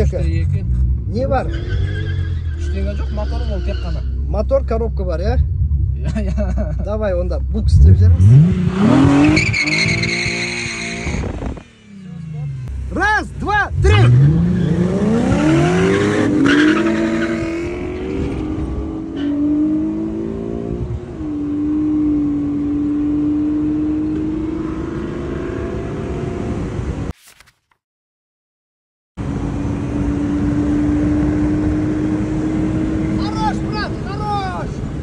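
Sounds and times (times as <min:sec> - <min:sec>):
car engines revving: 0:00.0 - 0:27.1, 0:29.2 - 0:35.0.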